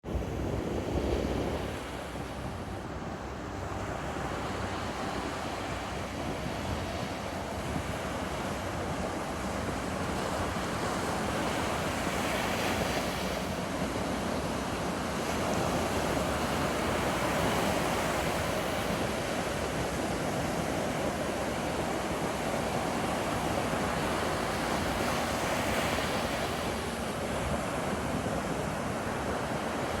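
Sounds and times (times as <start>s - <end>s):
wind buffeting microphone: 0.0s - 25.4s
ocean surf washing onto beach: 0.1s - 30.0s.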